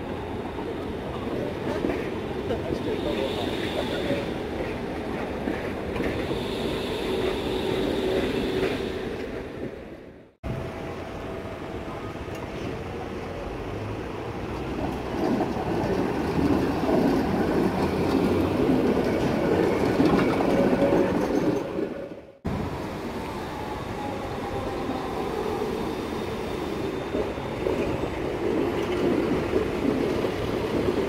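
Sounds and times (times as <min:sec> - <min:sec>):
city traffic noise: 0:00.0 - 0:31.0
tram rumbling: 0:00.0 - 0:31.0.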